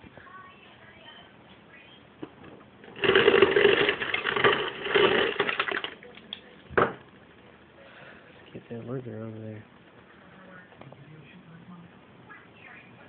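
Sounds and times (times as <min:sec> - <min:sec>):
dispenser motor hum with rattle: 0:01.3 - 0:13.0.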